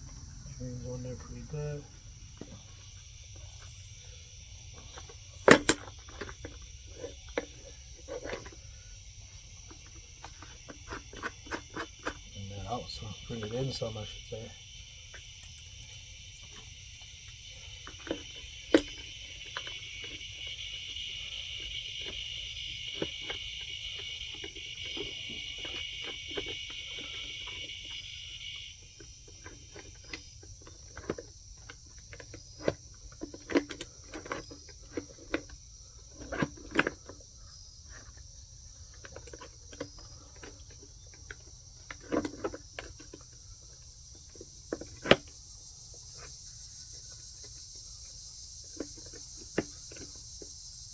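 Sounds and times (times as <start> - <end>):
chainsaw chain clicks and knocks: 0.0 - 50.9
high insect chorus: 0.0 - 50.9.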